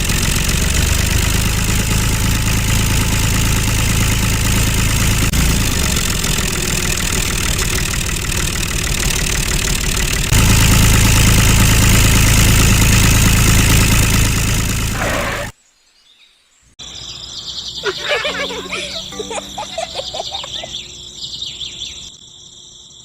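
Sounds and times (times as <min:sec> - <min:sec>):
engine humming: 0:00.0 - 0:15.5, 0:17.7 - 0:21.0.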